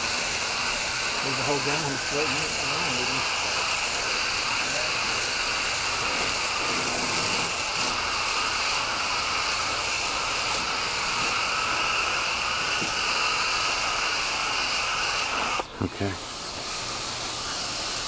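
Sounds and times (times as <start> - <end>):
water spraying from hose nozzle: 0.0 - 18.0.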